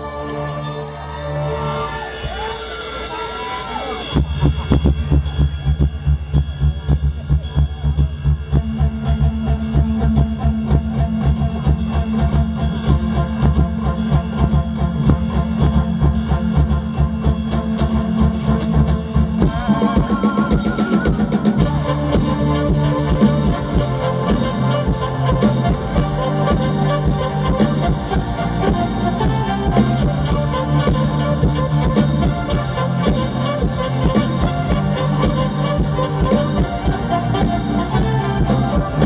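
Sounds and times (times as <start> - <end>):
wavering melody line: 0.0 - 5.6, 10.2 - 39.0
drum-kit beat with bass kicks: 4.0 - 39.0.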